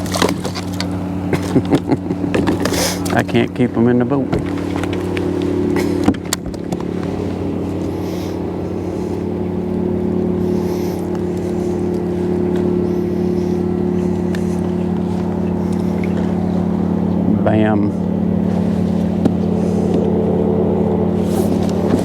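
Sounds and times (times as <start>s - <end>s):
engine droning steadily: 0.0s - 22.0s.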